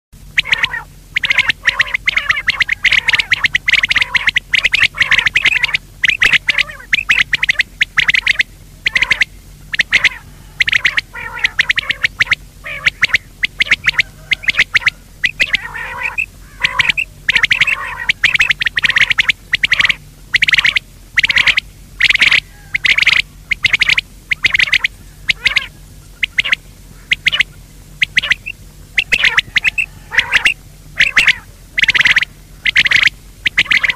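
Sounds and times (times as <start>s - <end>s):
faint low hum: 0.2s - 33.9s
recorded quail calls: 0.2s - 33.9s.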